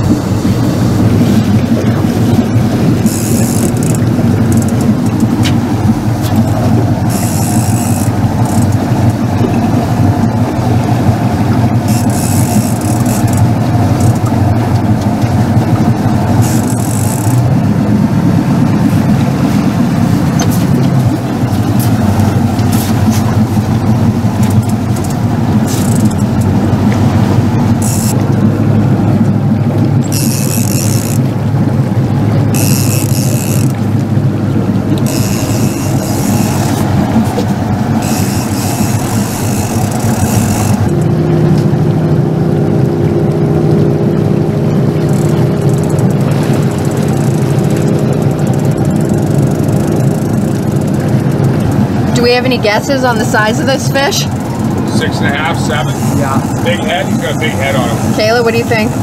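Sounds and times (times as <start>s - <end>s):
boat motor running: 0.0s - 59.0s.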